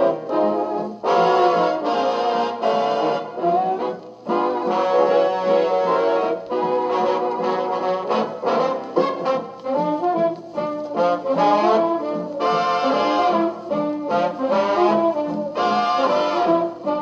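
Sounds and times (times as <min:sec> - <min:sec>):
big-band swing record on jukebox: 0:00.0 - 0:17.0.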